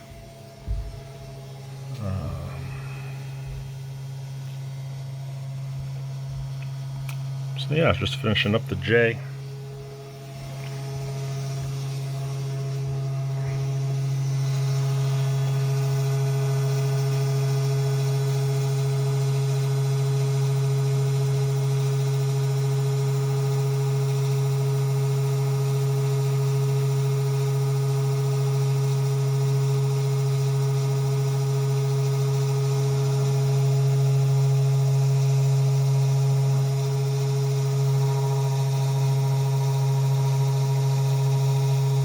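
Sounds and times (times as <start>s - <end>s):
spindle motor humming: 0.0s - 42.0s.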